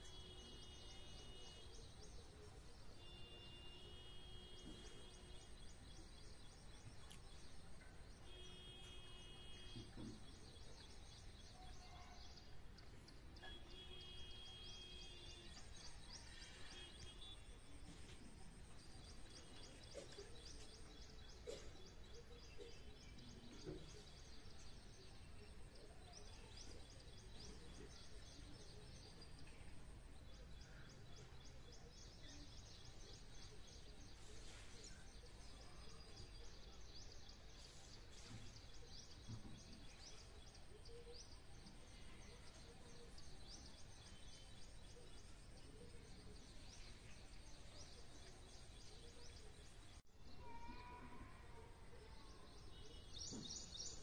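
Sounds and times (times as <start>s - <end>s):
small birds chirping: 0.0s - 51.4s, 52.1s - 54.0s.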